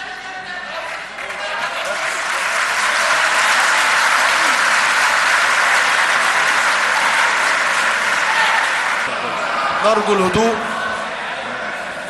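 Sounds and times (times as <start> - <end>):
crowd applause: 0.7 - 12.0.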